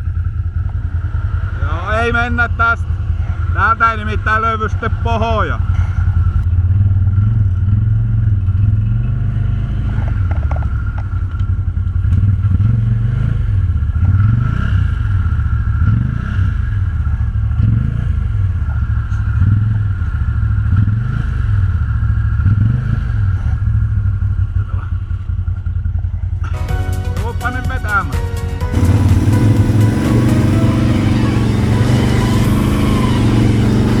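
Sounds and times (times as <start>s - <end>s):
atv engine revving: 0.0s - 26.6s, 28.3s - 34.0s.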